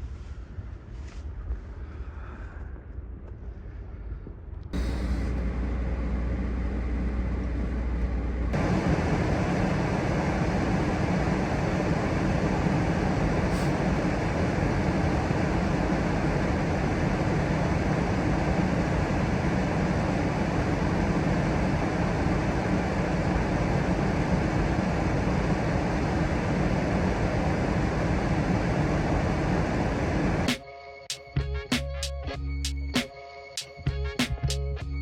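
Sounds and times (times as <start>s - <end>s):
steady low rumbling noise: 0.0s - 30.5s.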